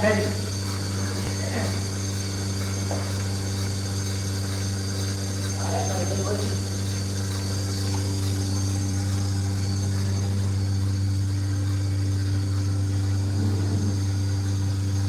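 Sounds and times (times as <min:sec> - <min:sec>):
vacuum pump motor humming: 0:00.0 - 0:15.0.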